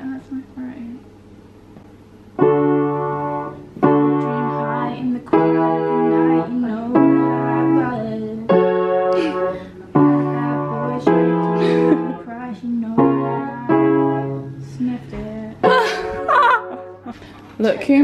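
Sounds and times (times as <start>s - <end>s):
piano chords: 2.3s - 17.2s.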